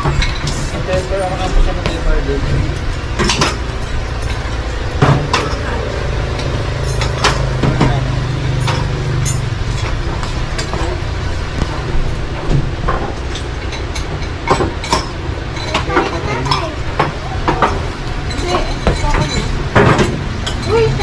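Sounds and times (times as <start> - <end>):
dishes and cutlery clinking: 0.0 - 21.0
low hum: 0.0 - 21.0.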